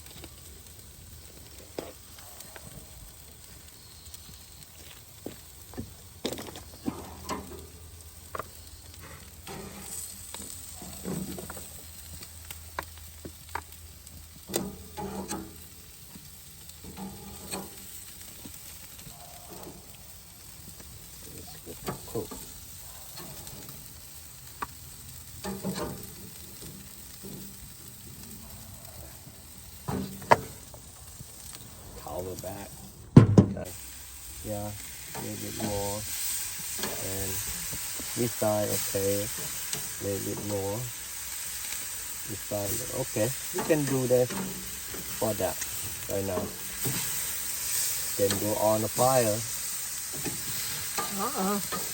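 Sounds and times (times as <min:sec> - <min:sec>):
food sizzling on a grill: 0:00.0 - 0:51.9.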